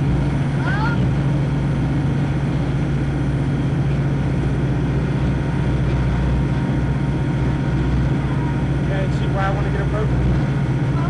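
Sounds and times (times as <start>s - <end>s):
boat engine humming: 0.0s - 11.0s
broad rushing noise: 0.0s - 11.0s.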